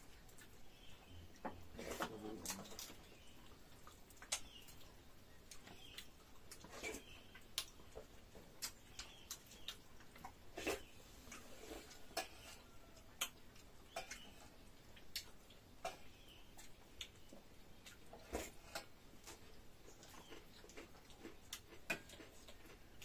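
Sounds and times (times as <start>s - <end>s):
chewing mouth clicks and smacks: 2.4s - 23.0s.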